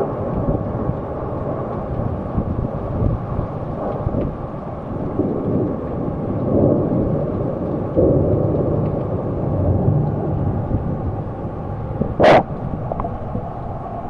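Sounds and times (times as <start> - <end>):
wind and rain on microphone: 0.0 - 14.0.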